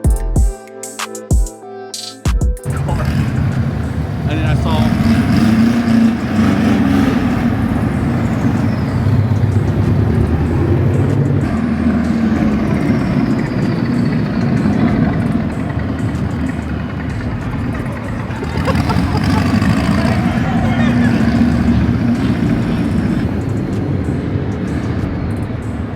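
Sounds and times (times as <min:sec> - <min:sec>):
car engines running: 0:02.7 - 0:25.9.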